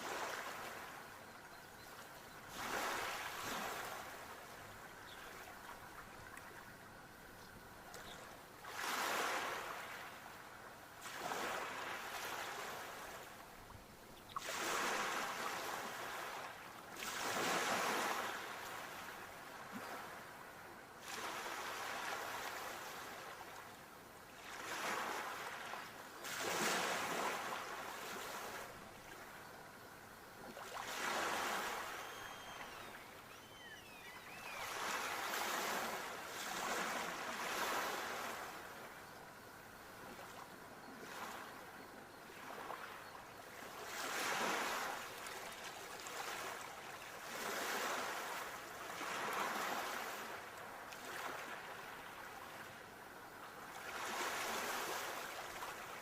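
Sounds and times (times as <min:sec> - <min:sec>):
sea waves breaking on shore: 0:00.0 - 0:01.0, 0:02.4 - 0:06.7, 0:08.6 - 0:10.3, 0:11.0 - 0:13.5, 0:14.3 - 0:23.7, 0:24.4 - 0:29.3, 0:30.5 - 0:39.0, 0:42.3 - 0:52.8, 0:53.6 - 0:56.0.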